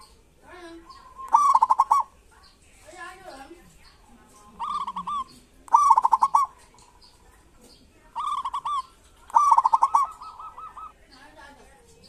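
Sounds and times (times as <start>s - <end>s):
dove calling: 0.0s - 12.0s.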